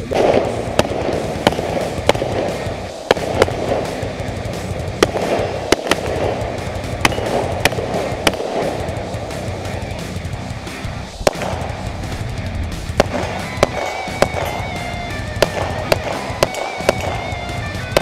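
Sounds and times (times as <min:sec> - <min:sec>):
rifle shots: 0:00.0 - 0:10.2, 0:11.2 - 0:12.2, 0:12.8 - 0:18.0
background music: 0:00.0 - 0:18.0.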